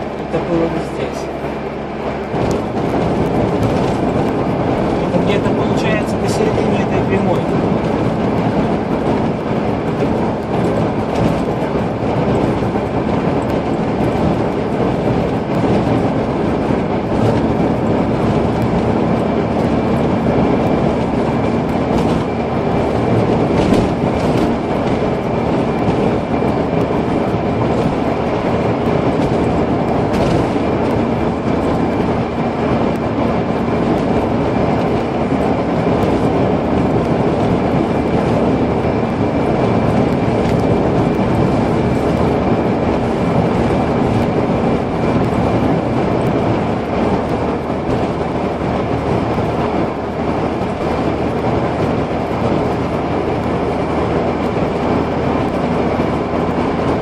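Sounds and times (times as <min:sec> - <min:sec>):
car engine cruising: 0:00.0 - 0:57.0
tyre rumble: 0:02.2 - 0:57.0.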